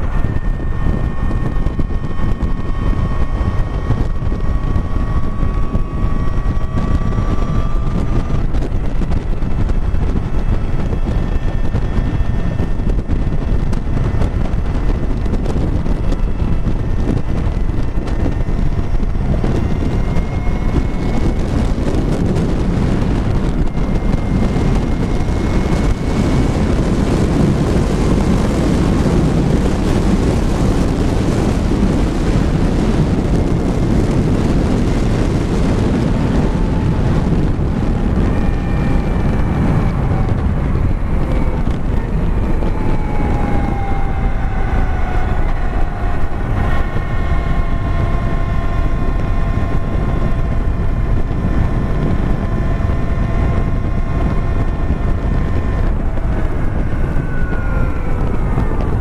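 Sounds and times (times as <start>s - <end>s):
electric motor whine: 0.0s - 59.0s
wind rushing over microphone: 0.0s - 59.0s.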